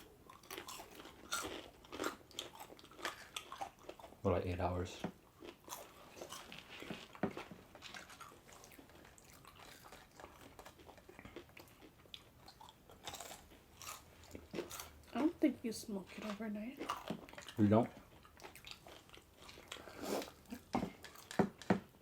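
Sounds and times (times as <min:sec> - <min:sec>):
crunchy chewing: 0:00.0 - 0:15.4, 0:16.0 - 0:21.9.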